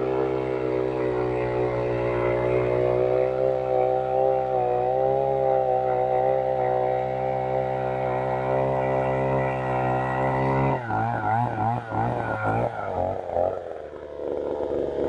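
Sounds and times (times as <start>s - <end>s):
two-stroke auger engine running: 0.0s - 15.0s.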